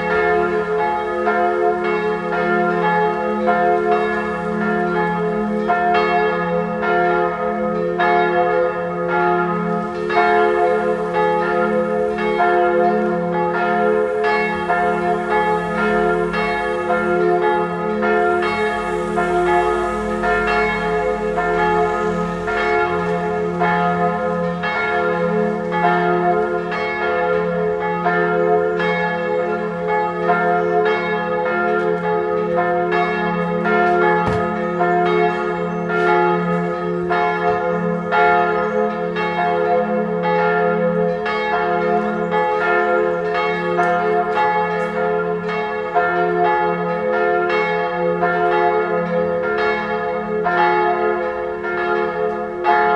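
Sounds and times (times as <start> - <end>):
church bells ringing: 0.0 - 52.9.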